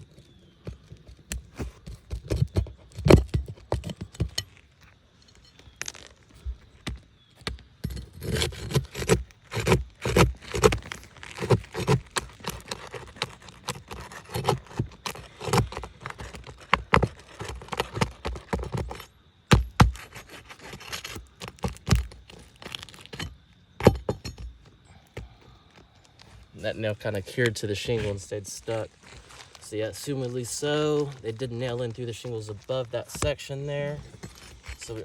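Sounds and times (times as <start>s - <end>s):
hand tool scraping on shingles: 0.0s - 35.0s.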